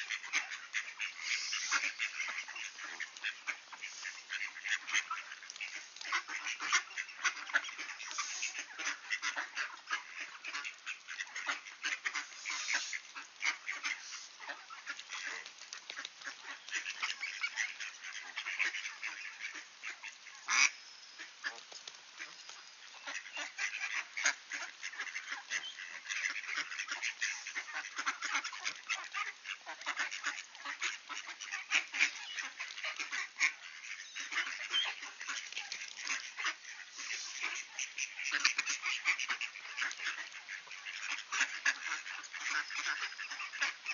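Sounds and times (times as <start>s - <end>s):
ducks quacking: 0.0s - 43.9s.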